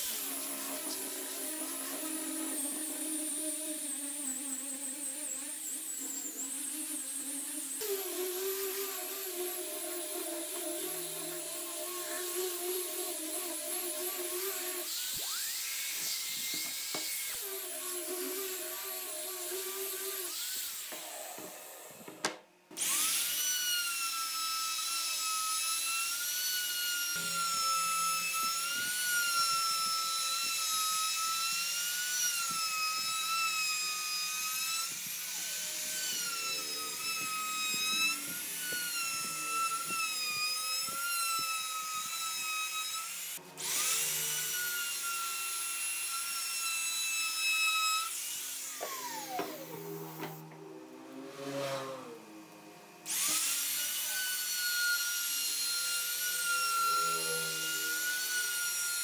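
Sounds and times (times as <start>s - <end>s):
rotary sander on wood: 0.0s - 59.0s
router whining cutting wood: 0.0s - 59.0s.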